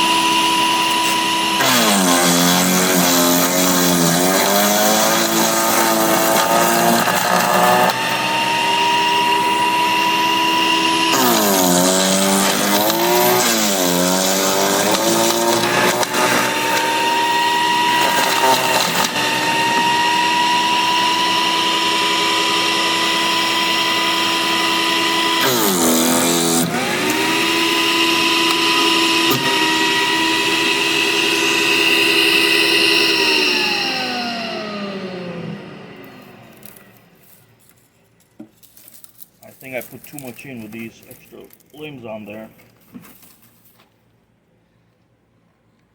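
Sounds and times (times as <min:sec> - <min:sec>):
electric chipper motor whine: 0:00.0 - 0:37.4.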